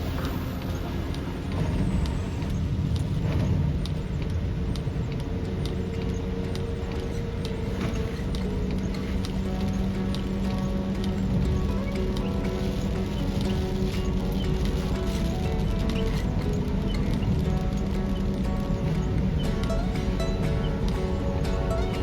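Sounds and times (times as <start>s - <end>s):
engine and tyres on wet road: 0.0s - 22.0s
rain tapping on car: 0.0s - 22.0s.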